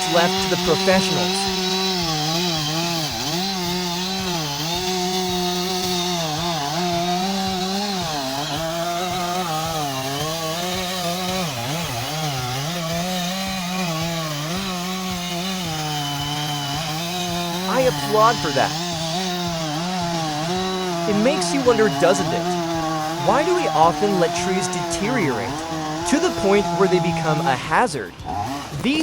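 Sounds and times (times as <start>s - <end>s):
chainsaw cutting: 0.0s - 29.0s.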